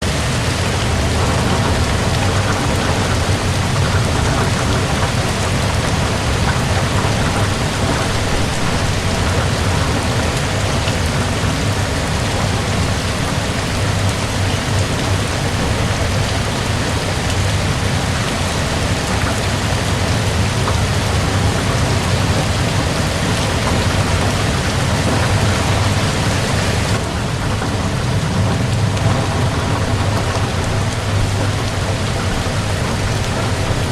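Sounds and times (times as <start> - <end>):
deep rumble: 0.0 - 33.9
heavy rain pouring: 0.0 - 33.9.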